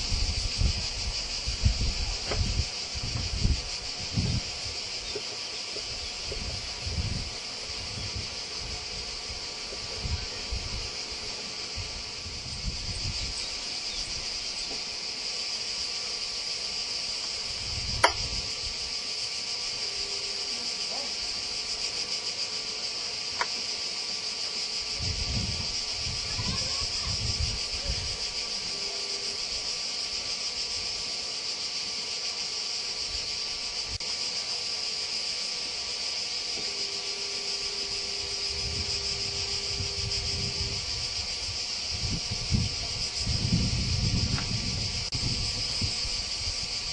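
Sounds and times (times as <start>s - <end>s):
cicadas chirring: 0.0s - 46.9s.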